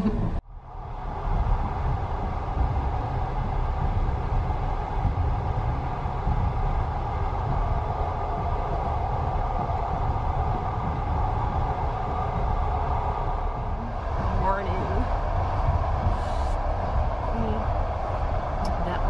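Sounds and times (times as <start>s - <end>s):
train rumble and hum inside carriage: 0.0s - 19.0s.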